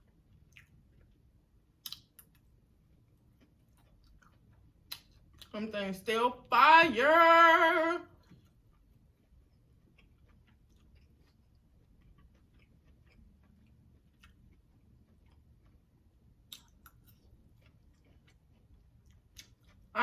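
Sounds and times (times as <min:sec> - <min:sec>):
chewing and mouth sounds: 0:00.0 - 0:05.6, 0:08.1 - 0:20.0
low room hum: 0:00.0 - 0:20.0.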